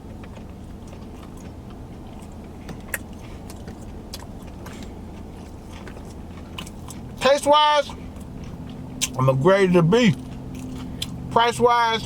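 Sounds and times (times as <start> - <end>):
vehicle engine idling hum: 0.0 - 12.0.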